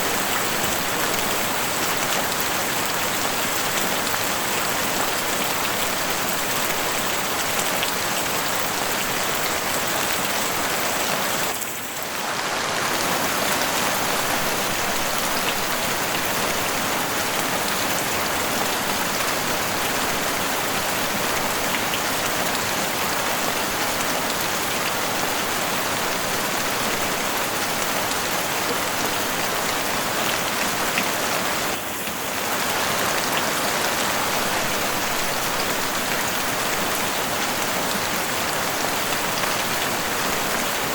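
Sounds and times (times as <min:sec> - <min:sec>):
heavy rain on roof: 0:00.0 - 0:40.9.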